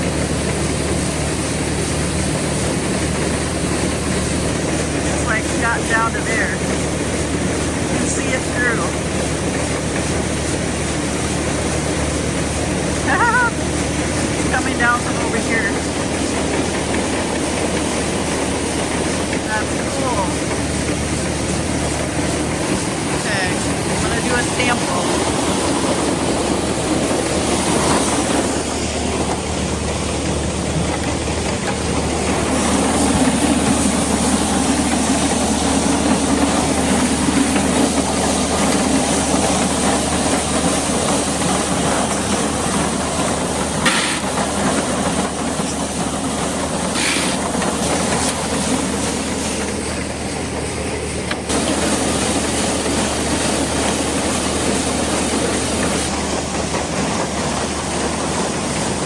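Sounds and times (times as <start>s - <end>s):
grain dryer mechanical drone: 0.0s - 59.0s.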